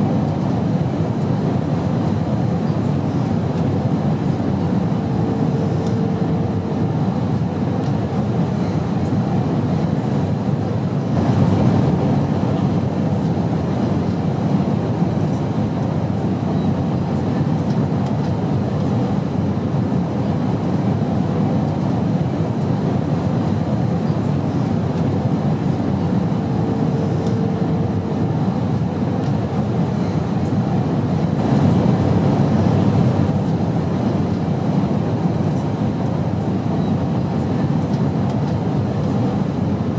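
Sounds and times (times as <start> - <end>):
airplane engine rumble in flight: 0.0 - 39.9.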